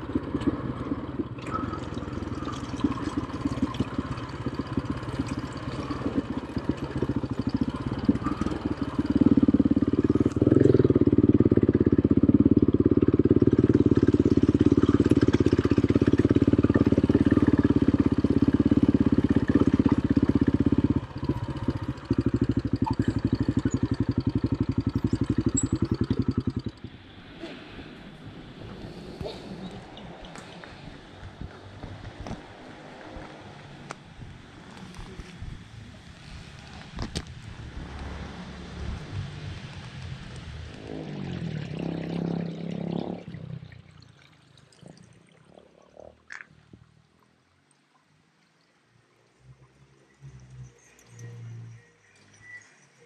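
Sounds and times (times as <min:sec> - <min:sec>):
quad bike engine running: 0:00.0 - 0:43.6.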